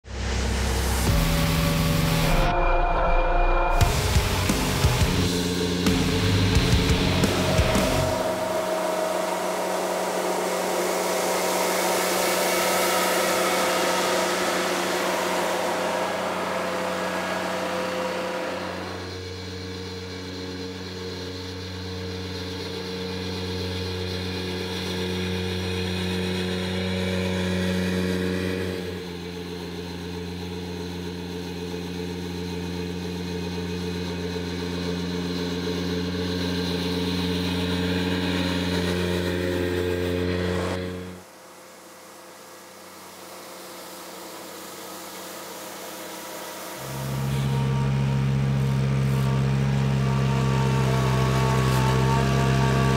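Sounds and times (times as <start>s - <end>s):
tractor engine hum: 3.8s - 41.2s, 46.6s - 52.9s.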